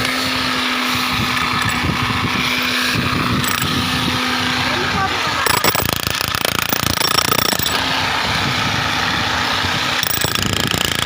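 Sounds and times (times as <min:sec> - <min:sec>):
power drill hammering concrete: 0:00.0 - 0:11.0.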